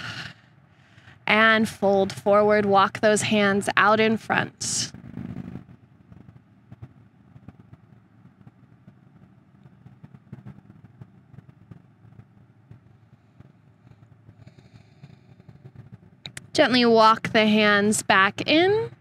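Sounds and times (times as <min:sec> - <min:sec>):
faint low rumble: 0:00.0 - 0:19.0.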